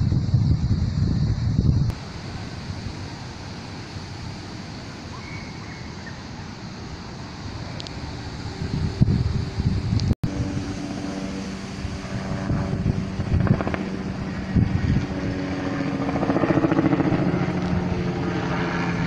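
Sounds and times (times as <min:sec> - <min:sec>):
engine droning hum: 0:00.0 - 0:19.0.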